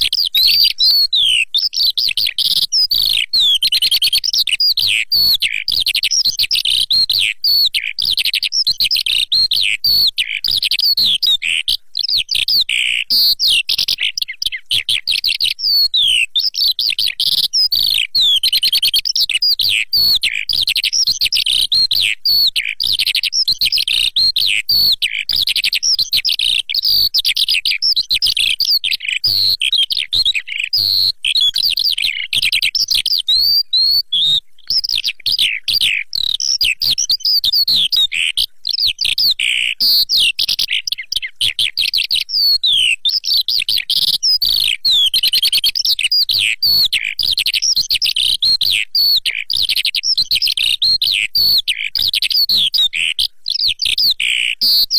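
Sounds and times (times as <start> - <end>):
lark singing: 0.0 - 54.9.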